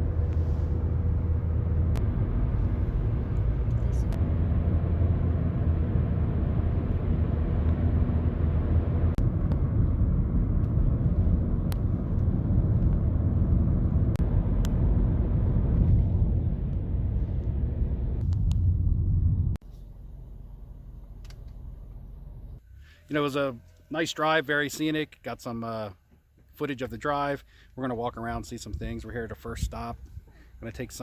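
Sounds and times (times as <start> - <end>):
car road and engine rumble: 0.0 - 24.8, 26.0 - 31.0.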